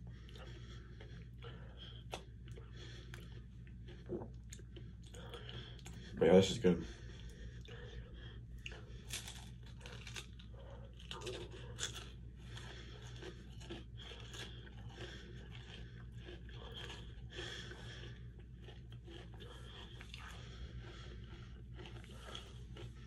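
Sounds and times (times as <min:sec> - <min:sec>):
chewing and crunching: 0:00.0 - 0:23.0
faint low hum: 0:00.0 - 0:23.0.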